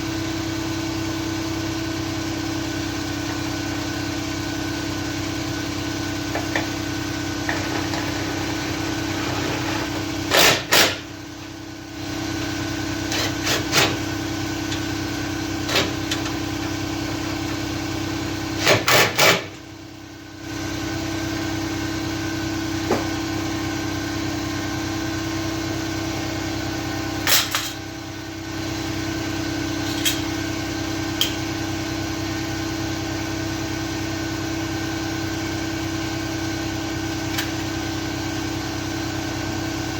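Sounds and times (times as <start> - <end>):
mechanical hum: 0.0 - 39.9.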